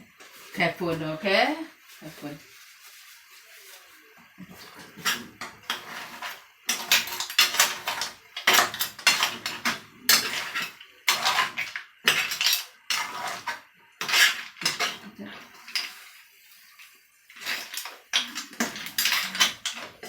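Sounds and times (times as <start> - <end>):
cookware and utensils clattering: 3.5 - 20.0.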